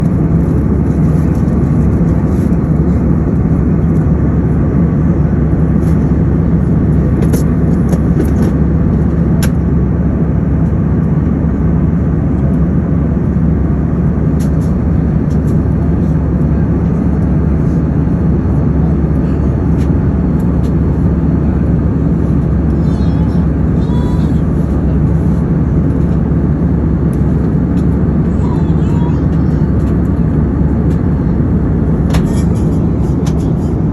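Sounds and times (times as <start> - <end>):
low engine drone: 0.0 - 33.9.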